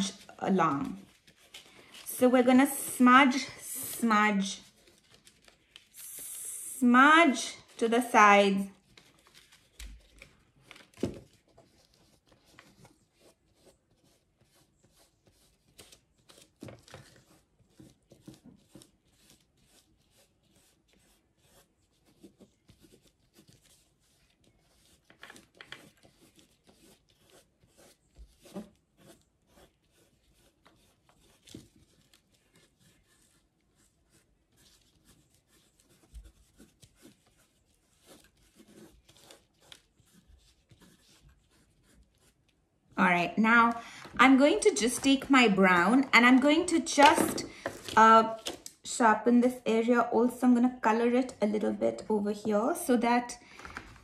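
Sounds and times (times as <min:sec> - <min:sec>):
oil pastel rubbing on paper: 0:00.0 - 0:10.6, 0:11.4 - 0:47.2.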